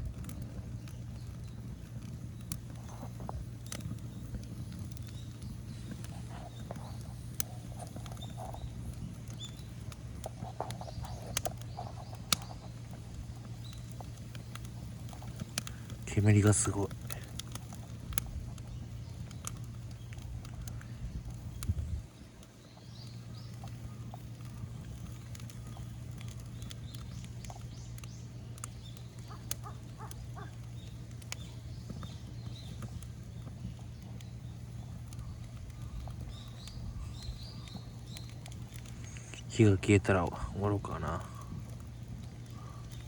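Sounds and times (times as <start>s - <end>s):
bonfire crackling and popping: 0.0s - 43.0s.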